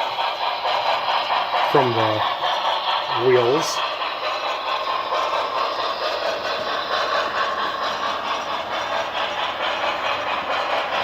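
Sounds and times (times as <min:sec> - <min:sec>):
model train steam chuffs: 0:00.0 - 0:11.0
model train wheels clattering: 0:00.0 - 0:11.0.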